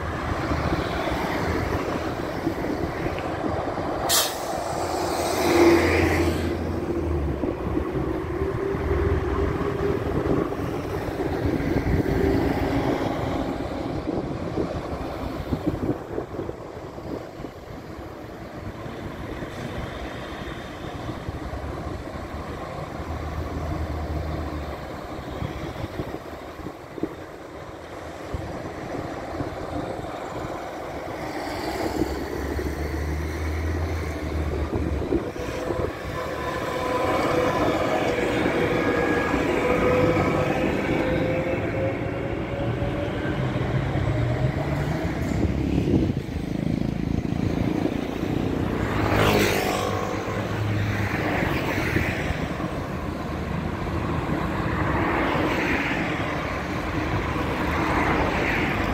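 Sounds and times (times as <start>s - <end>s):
bus engine passing: 0.0s - 58.9s
road traffic: 0.0s - 58.9s
tram approaching on rails: 0.0s - 58.9s.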